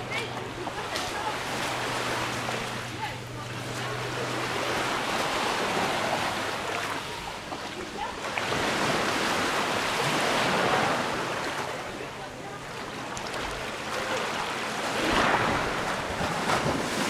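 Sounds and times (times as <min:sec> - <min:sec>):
waves washing on sandy shore: 0:00.0 - 0:17.0.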